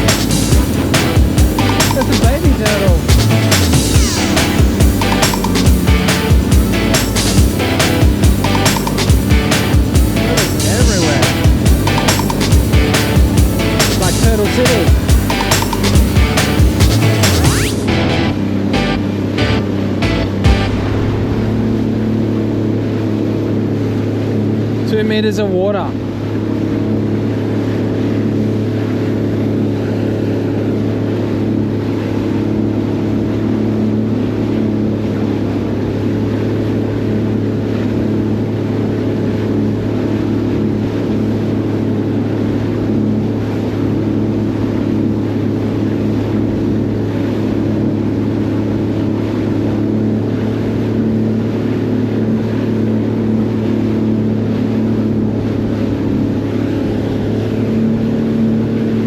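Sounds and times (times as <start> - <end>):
jet ski engine drone: 0.0 - 59.0.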